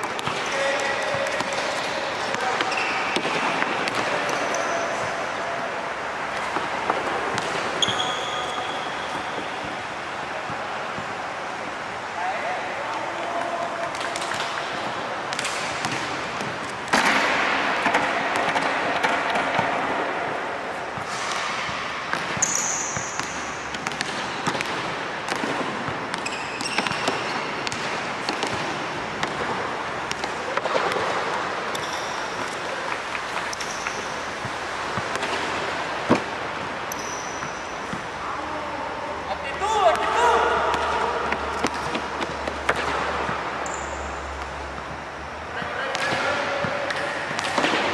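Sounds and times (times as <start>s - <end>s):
basketballs bouncing: 0.0s - 5.2s, 6.3s - 11.2s, 13.2s - 38.2s, 39.4s - 47.9s
steady background noise: 0.0s - 47.9s.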